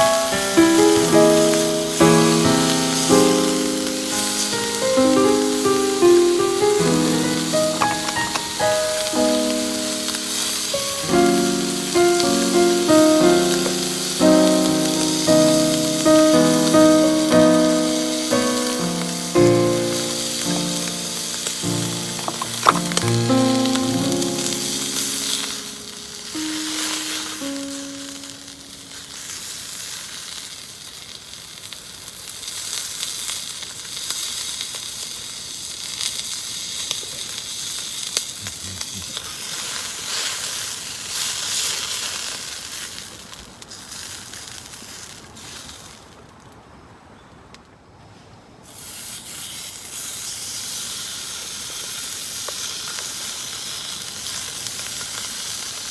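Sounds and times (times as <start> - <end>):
food sizzling in a pan: 0.0 - 46.1, 48.7 - 55.9.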